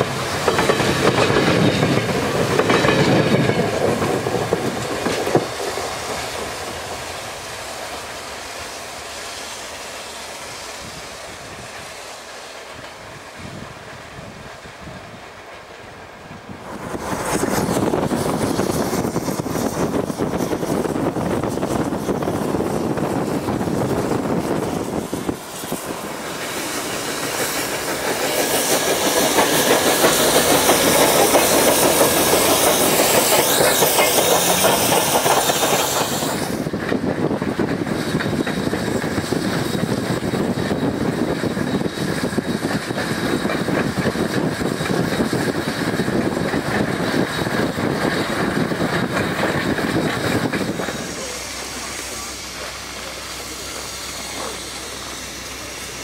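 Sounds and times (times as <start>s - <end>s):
steam hissing: 0.0s - 56.0s
train wheels clattering on rails: 0.0s - 56.0s.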